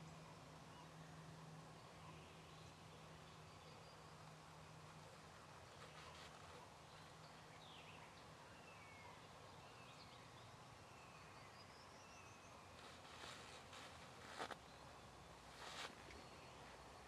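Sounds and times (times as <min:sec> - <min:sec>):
faint bird chirps: 0:00.0 - 0:17.0
faint steady hiss: 0:00.0 - 0:17.0.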